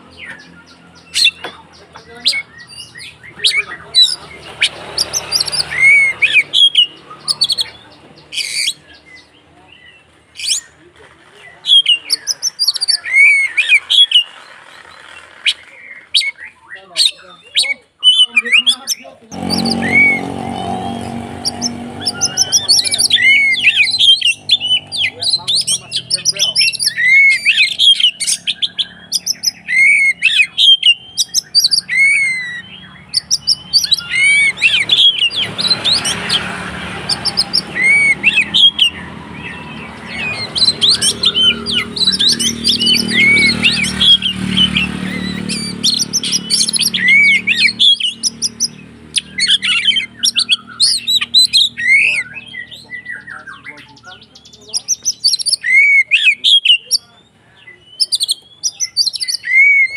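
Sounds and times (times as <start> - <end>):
magpie-robin singing: 0.0 - 10.8, 11.4 - 59.9.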